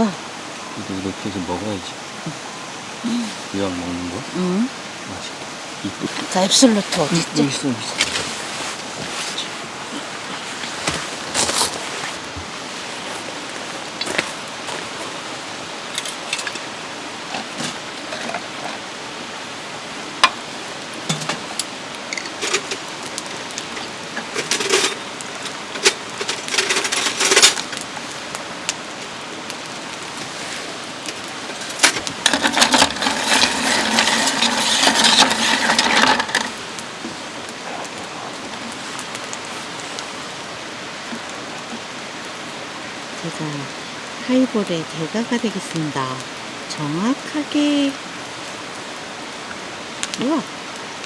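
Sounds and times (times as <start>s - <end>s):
mountain stream rushing: 0.0s - 51.0s.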